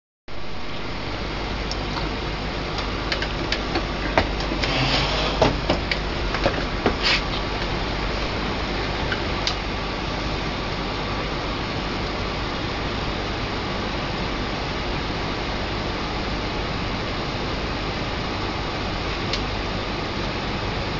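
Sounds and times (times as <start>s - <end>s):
low hum and hiss: 0.3s - 20.9s.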